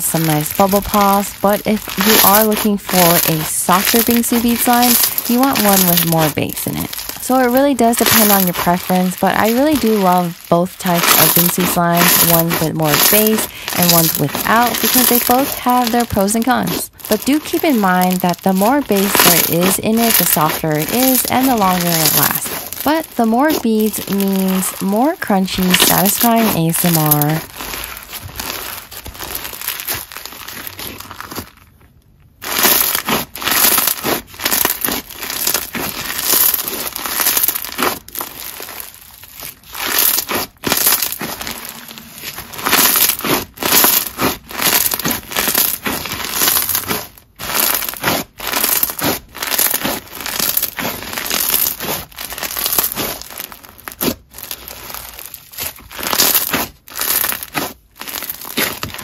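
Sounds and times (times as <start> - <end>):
bead slime crunchy crackling: 0.0 - 59.0.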